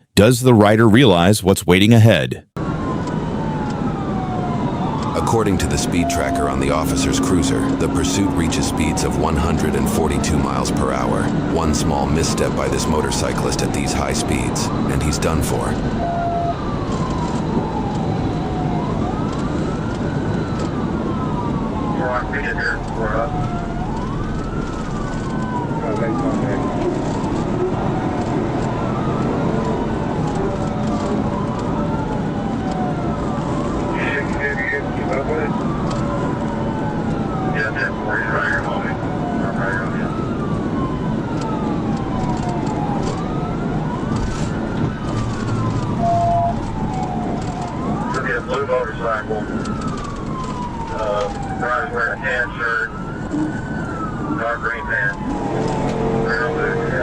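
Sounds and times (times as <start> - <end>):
road and engine noise: 0.0 - 57.0
police siren wailing: 2.6 - 57.0.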